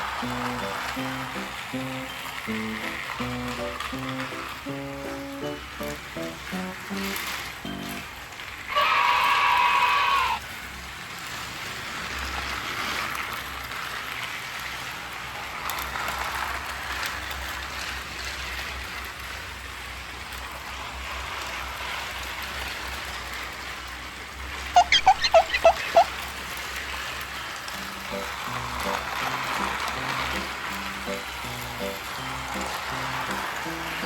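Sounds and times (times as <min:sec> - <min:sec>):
toy train whirring rattle: 0:00.0 - 0:34.0.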